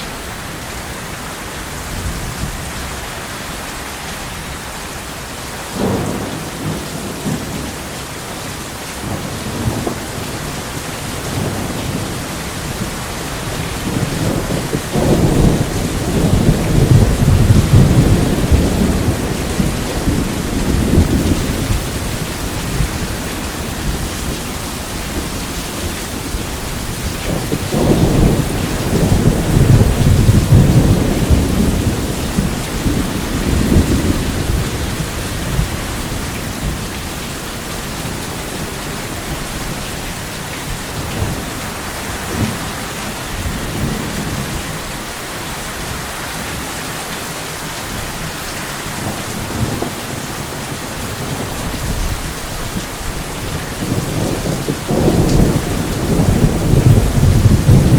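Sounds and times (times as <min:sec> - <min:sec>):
steady rain hissing: 0:00.0 - 0:57.9
rolling thunder: 0:05.7 - 0:07.9, 0:09.0 - 0:45.0, 0:48.9 - 0:57.9.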